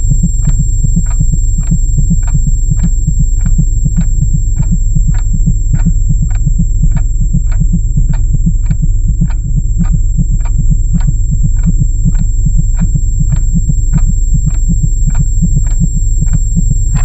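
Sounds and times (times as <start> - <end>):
pulsing bass line: 0.0 - 17.0
steady beat sharp hits: 0.0 - 17.0.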